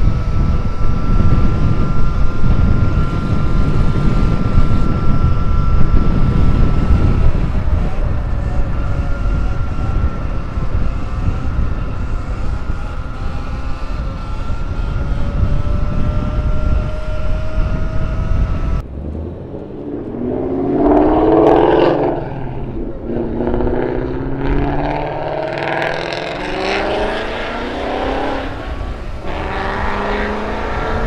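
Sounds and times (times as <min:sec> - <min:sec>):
electric motor whine: 0:00.0 - 0:31.0
wind buffeting microphone: 0:00.0 - 0:31.0.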